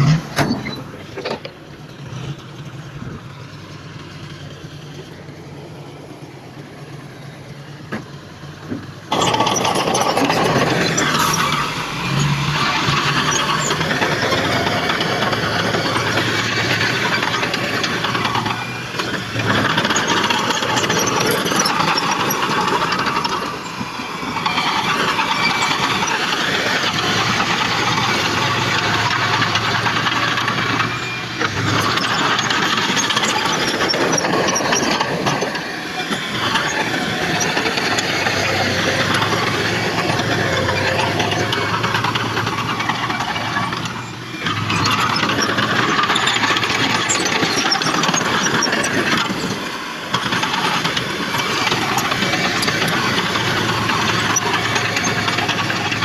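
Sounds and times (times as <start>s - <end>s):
heavy diesel machinery working: 0.0s - 56.0s.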